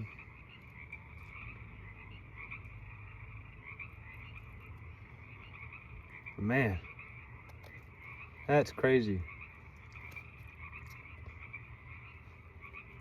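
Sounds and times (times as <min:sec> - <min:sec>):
frogs calling: 0:00.0 - 0:13.0.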